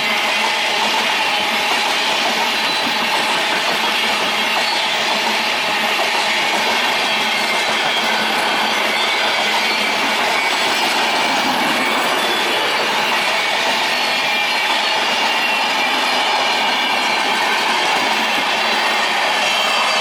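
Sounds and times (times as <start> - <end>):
loud steady running noise: 0.0 - 20.0.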